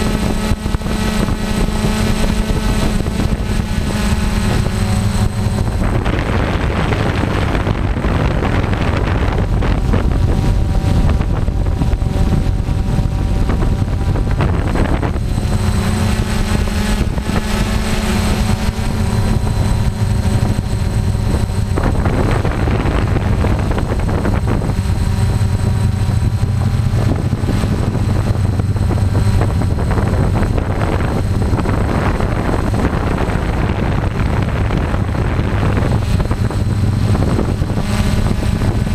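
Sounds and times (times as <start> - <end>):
drone motors whining: 0.0 - 38.9
wind buffeting microphone: 0.0 - 38.9.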